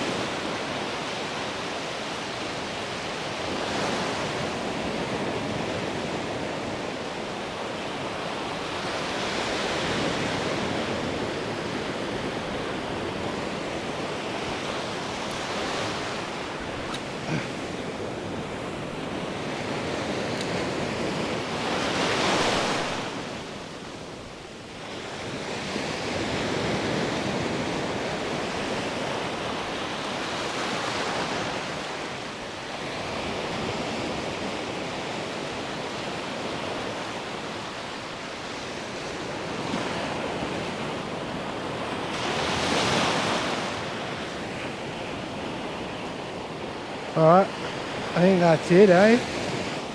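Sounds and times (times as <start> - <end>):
waves breaking on a beach: 0.0 - 49.9.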